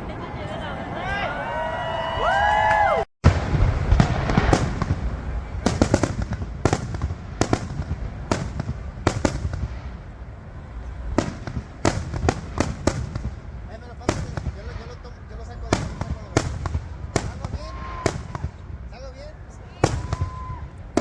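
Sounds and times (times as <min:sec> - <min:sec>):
fireworks popping and banging: 0:03.2 - 0:21.0
low rumble: 0:03.2 - 0:21.0.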